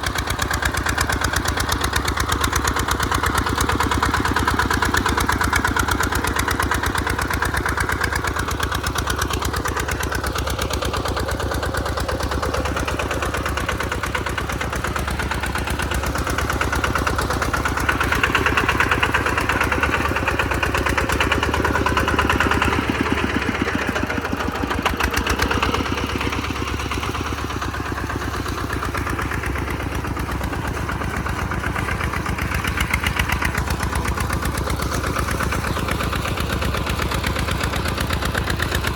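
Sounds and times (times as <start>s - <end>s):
diesel walking tractor engine: 0.0s - 38.9s.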